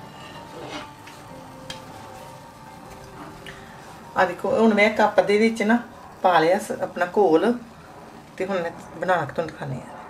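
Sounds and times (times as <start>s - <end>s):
oil sizzling in a pan: 0.0s - 9.8s.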